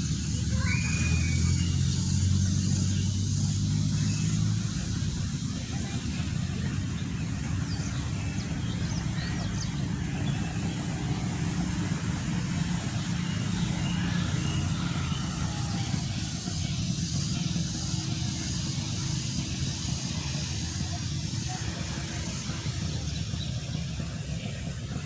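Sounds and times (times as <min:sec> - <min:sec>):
low motor rumble: 0:00.0 - 0:25.0.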